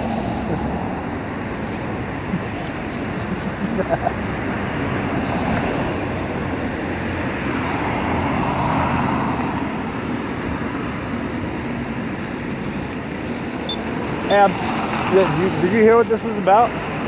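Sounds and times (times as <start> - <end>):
vehicle passing by: 0.0 - 11.1, 13.9 - 17.0
steady traffic engine rumble: 0.0 - 17.0.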